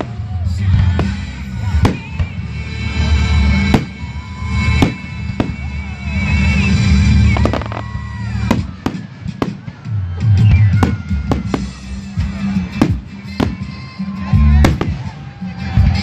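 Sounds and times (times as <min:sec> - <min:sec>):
music playing: 0:00.0 - 0:16.0
fireworks bursting: 0:00.8 - 0:15.2.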